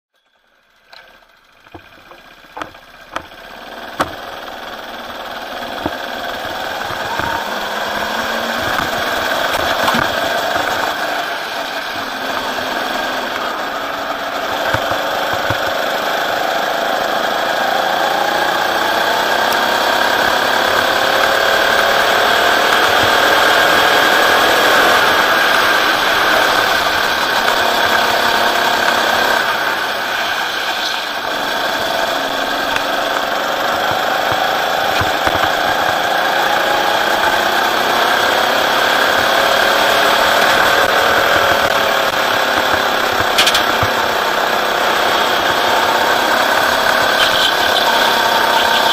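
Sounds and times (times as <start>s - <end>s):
go-kart engine running: 0.4s - 48.9s.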